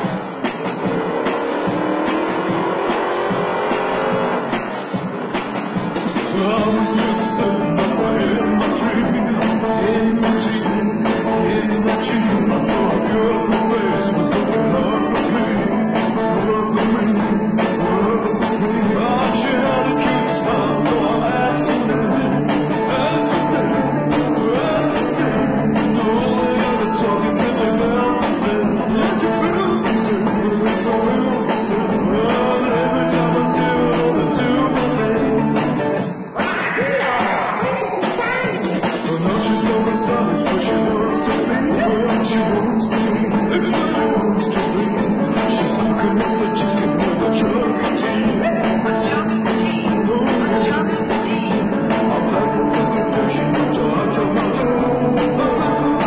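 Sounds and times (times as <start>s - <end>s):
rock and roll song: 0.0s - 56.0s.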